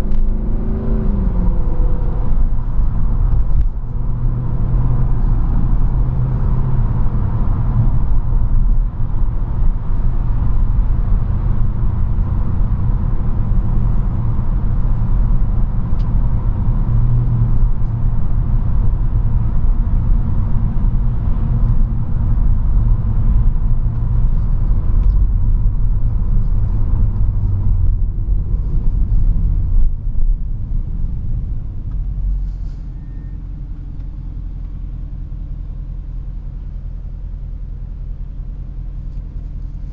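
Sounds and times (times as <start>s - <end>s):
car engine rumble from cabin: 0.0s - 39.9s.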